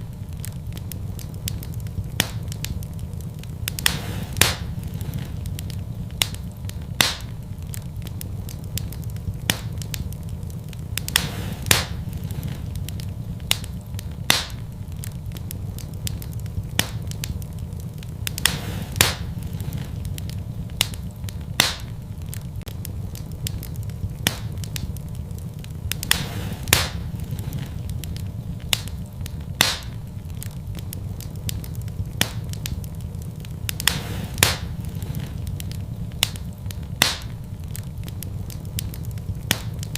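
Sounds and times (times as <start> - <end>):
fire crackling pops: 0.0 - 39.9
low rumble of flame: 0.0 - 39.9.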